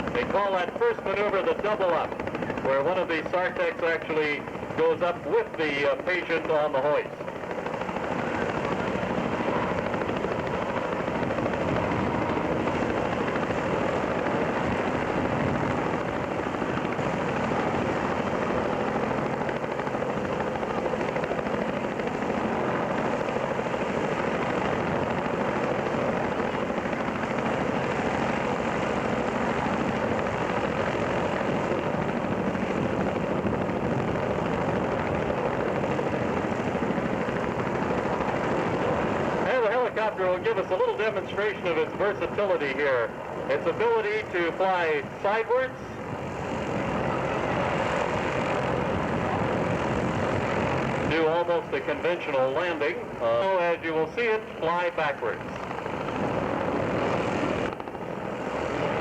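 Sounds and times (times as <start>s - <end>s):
helicopter rotor beat: 0.0s - 59.0s.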